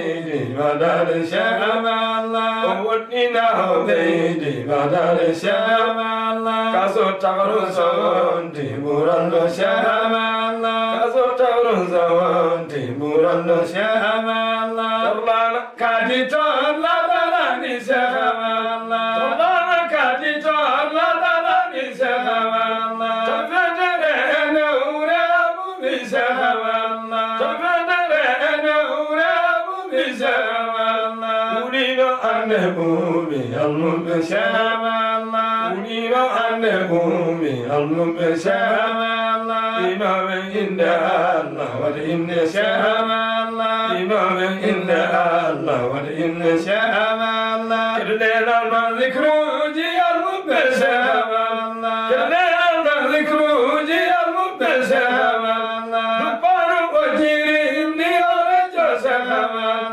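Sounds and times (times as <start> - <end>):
men chanting devotional poem: 0.0 - 59.9.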